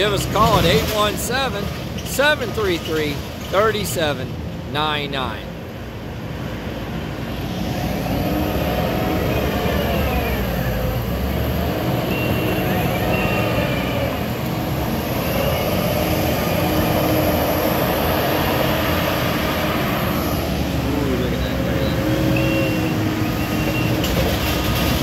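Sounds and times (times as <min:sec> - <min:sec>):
diesel engines working: 0:00.0 - 0:25.0.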